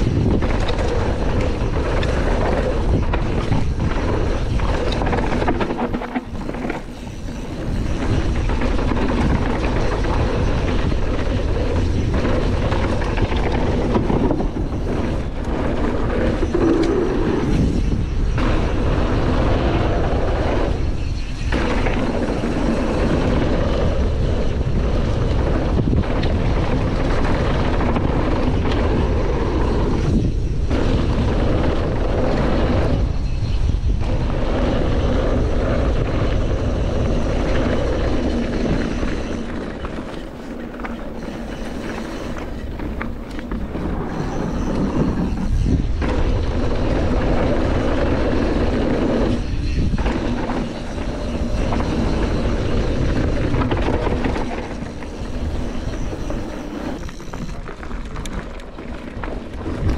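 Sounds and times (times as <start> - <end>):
mountain bike rumbling and rattling: 0.0 - 59.9
wind buffeting camera: 0.0 - 59.9.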